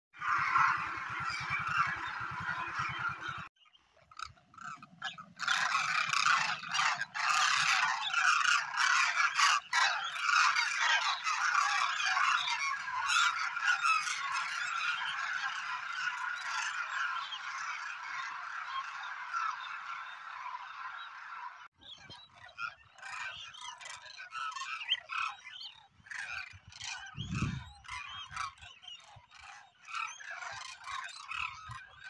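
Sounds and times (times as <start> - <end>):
flock of cranes trumpeting: 0.2 - 3.5, 4.1 - 21.7, 26.1 - 32.0.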